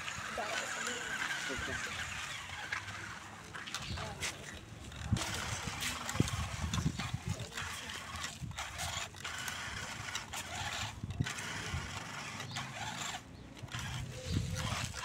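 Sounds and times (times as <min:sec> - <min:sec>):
small electric motor and gears: 0:00.0 - 0:15.0.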